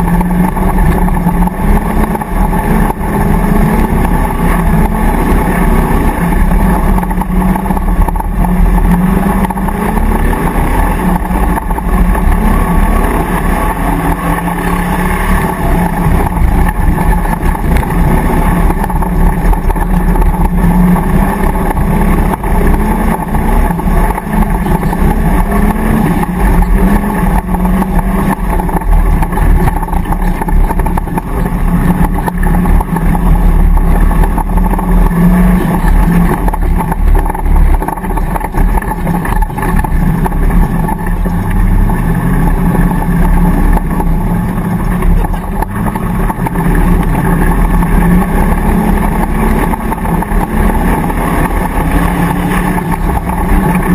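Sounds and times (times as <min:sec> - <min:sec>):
engine running hard from inside cab: 0:00.0 - 0:53.9.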